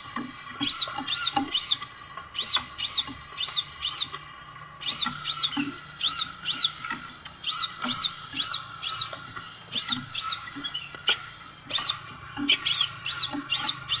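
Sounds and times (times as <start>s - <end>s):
faint background hum: 0.0s - 14.0s
songbird chirping: 0.0s - 14.0s.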